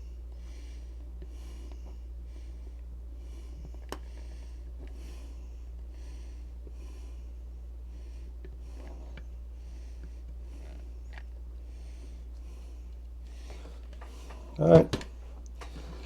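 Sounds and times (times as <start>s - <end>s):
steady low hum: 0.0s - 16.0s
person breathing heavily: 0.4s - 14.7s.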